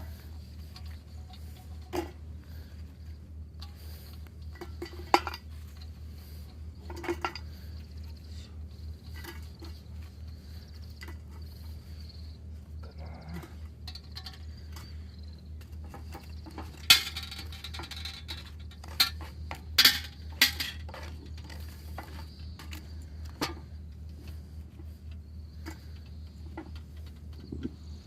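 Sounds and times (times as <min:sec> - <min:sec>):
metal camp gear clinking: 0:00.0 - 0:02.3, 0:03.5 - 0:11.8, 0:12.8 - 0:24.9.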